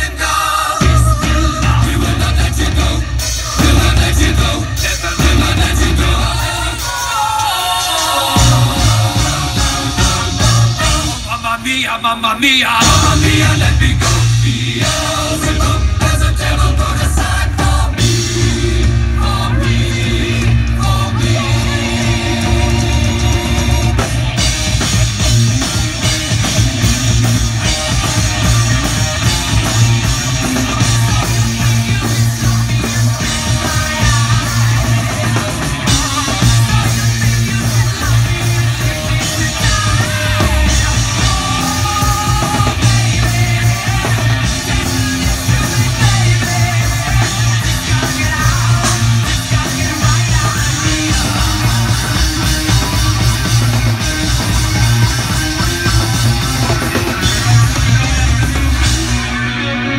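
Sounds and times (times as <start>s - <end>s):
person singing: 0.0s - 24.5s, 27.6s - 59.8s
distorted electric guitar: 0.0s - 59.9s
pounding drum kit: 0.0s - 59.9s.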